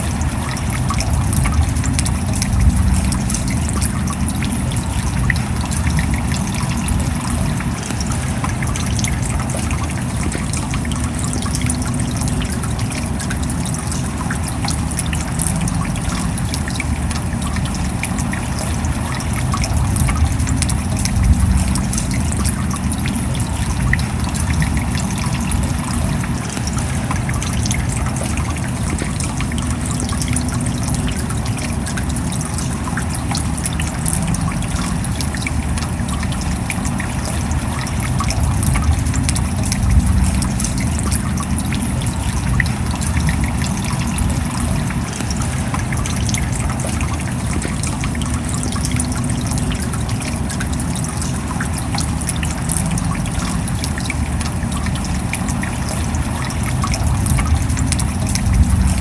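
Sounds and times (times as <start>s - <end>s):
rain pattering: 0.0s - 59.0s
water trickling: 0.0s - 59.0s.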